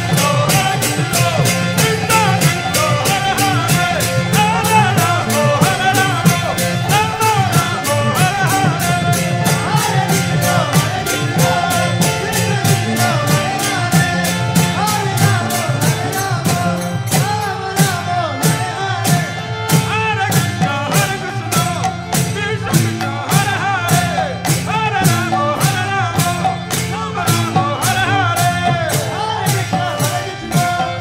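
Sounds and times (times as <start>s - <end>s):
group singing a chant: 0.0s - 31.0s
hand cymbals clashing: 0.0s - 31.0s.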